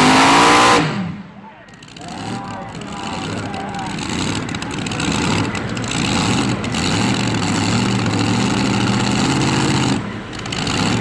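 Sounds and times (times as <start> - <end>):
pulling tractor engine running loud: 0.0 - 11.0.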